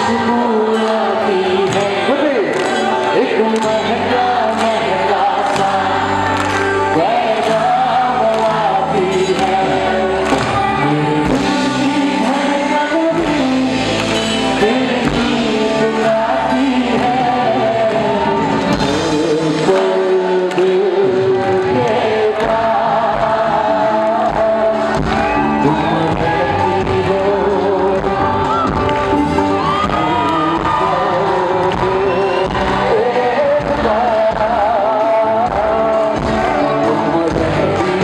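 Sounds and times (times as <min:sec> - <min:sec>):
man singing into microphone: 0:00.0 - 0:38.0.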